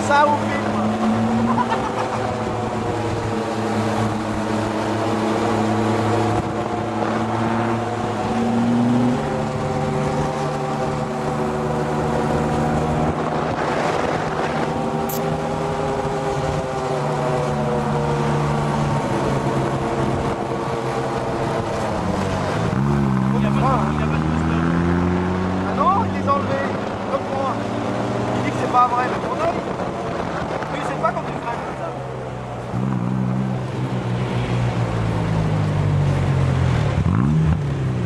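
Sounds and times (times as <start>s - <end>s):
buggy engine running: 0.0s - 38.0s
road and wind noise: 0.0s - 38.0s.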